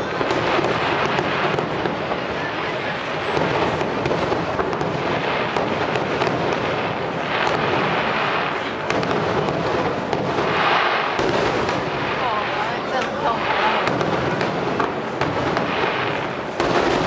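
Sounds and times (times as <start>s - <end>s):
fireworks bangs and crackle: 0.0s - 17.0s.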